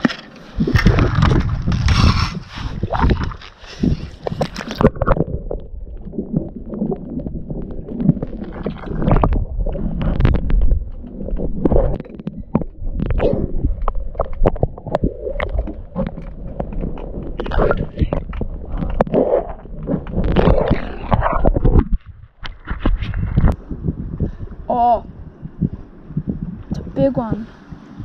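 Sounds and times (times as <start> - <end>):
small clicks and crackles: 0.0 - 23.6
underwater rumble of water: 0.4 - 28.0.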